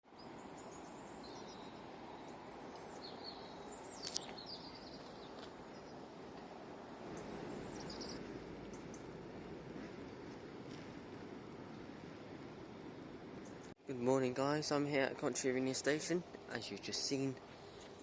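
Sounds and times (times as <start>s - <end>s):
background noise: 0.0s - 18.0s
birds chirping: 0.1s - 18.0s.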